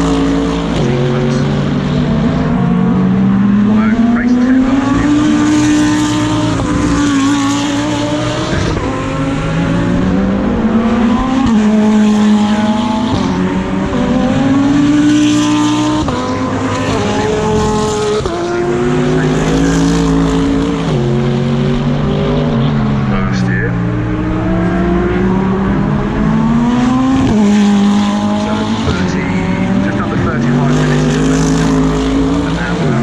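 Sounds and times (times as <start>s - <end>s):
race car engine shifting gears: 0.0s - 33.0s.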